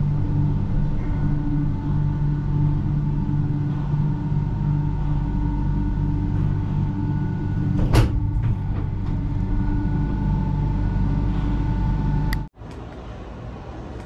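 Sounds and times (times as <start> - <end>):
cable car machinery hum: 0.0 - 14.0.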